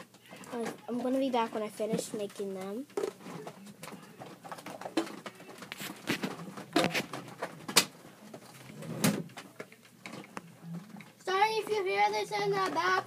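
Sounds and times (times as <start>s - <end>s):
objects clicking and knocking: 0.0s - 11.2s.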